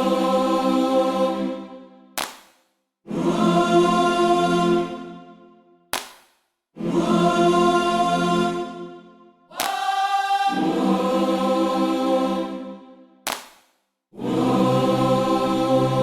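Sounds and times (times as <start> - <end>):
sustained choir-like chords: 0.0 - 2.0, 3.1 - 5.7, 6.8 - 13.1, 14.2 - 16.0.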